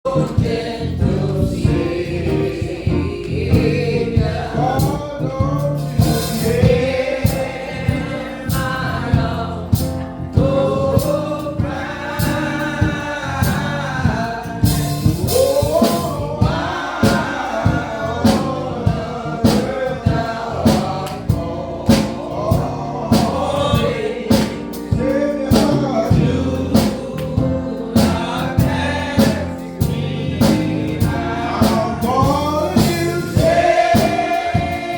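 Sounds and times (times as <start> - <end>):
gospel choir singing: 0.0 - 34.9
steady accompaniment beat: 0.1 - 34.9.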